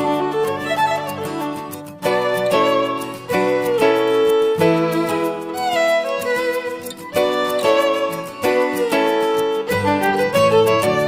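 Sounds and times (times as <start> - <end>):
melodic instrumental music: 0.0 - 11.0.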